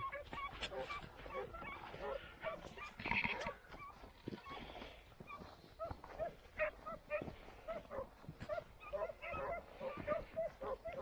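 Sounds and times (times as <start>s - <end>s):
hounds yelping: 0.0s - 11.0s.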